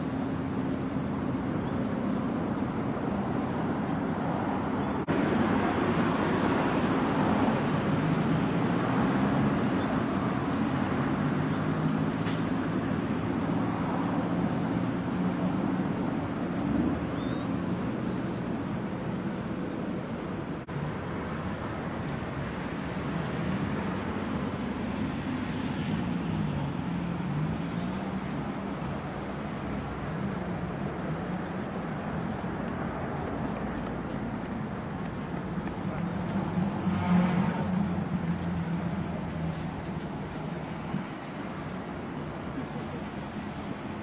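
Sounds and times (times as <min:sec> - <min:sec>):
car engines driving slowly: 0:00.0 - 0:44.0.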